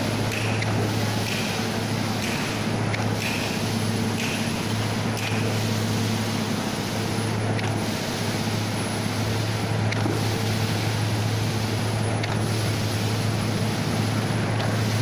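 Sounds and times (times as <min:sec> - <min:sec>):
machinery engine drone: 0:00.0 - 0:15.0.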